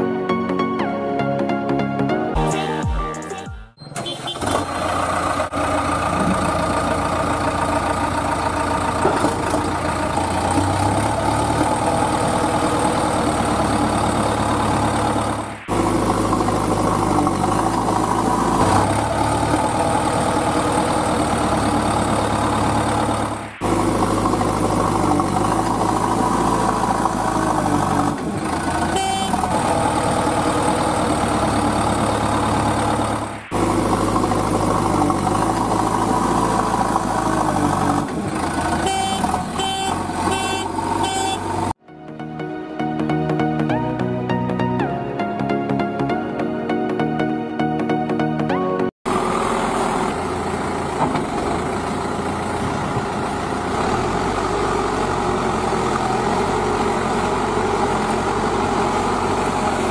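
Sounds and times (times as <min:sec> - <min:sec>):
heavy truck engine idling: 0:03.9 - 0:41.8, 0:49.1 - 0:59.9.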